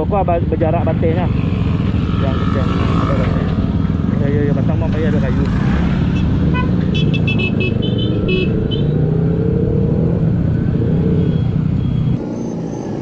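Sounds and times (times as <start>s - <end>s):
scooter engine and road noise: 0.0s - 13.0s.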